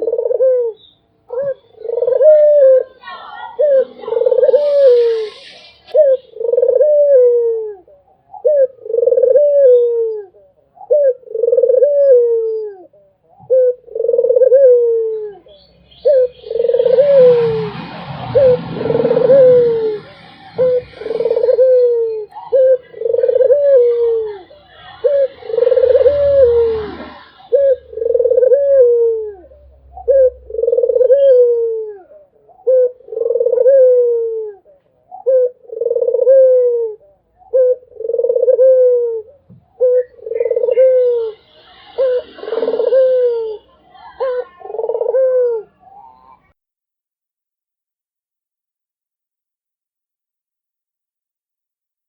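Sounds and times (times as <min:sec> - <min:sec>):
dove cooing: 0:00.0 - 0:46.5.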